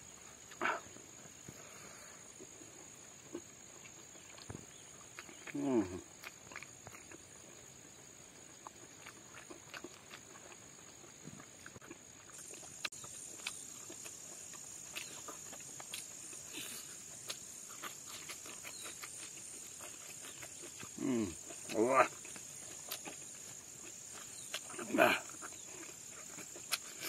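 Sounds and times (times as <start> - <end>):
chewing and smacking mouth sounds: 2.3 - 27.0.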